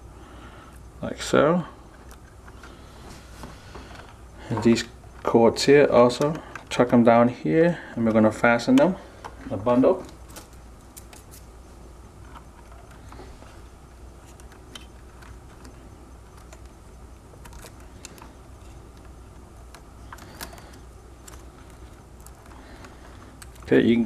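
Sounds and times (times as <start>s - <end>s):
steady low hum: 0.0s - 24.0s
wires clicking and rustling: 0.7s - 24.0s.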